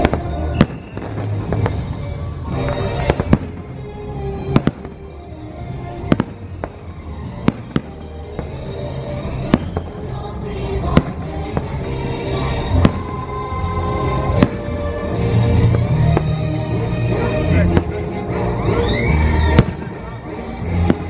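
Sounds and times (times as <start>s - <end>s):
fireworks bangs and cracks: 0.0s - 5.2s, 6.0s - 16.6s, 17.6s - 18.1s, 19.5s - 21.0s
music soundtrack: 0.0s - 21.0s.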